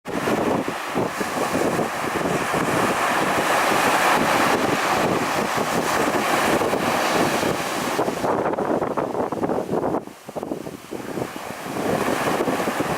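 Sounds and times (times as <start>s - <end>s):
waves breaking on beach: 0.1s - 12.9s
wind buffeting microphone: 0.1s - 12.9s.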